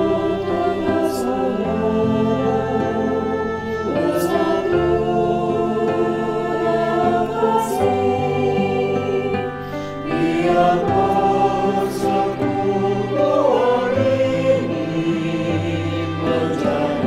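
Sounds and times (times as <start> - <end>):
mixed choir singing: 0.0 - 17.0.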